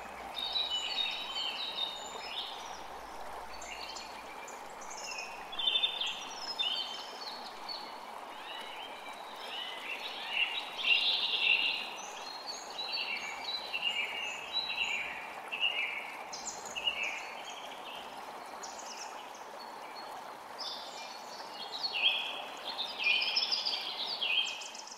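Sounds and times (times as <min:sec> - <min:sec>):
creek running: 0:00.0 - 0:24.9
songbirds singing: 0:00.0 - 0:24.9.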